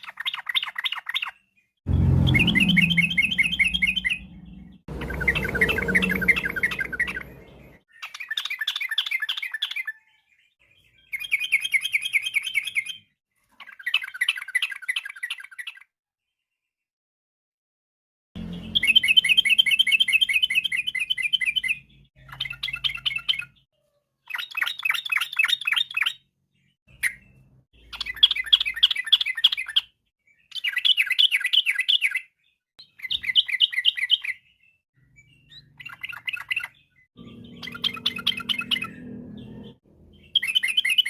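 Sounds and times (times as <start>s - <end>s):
bird singing trilled phrases: 0.0s - 15.9s, 18.5s - 23.7s, 24.3s - 41.0s.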